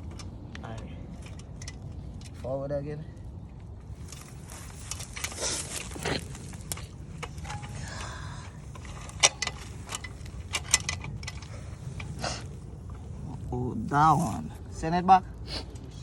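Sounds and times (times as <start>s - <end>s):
metallic clicks of bike chain: 0.0s - 13.2s
steady low rumble: 0.0s - 16.0s.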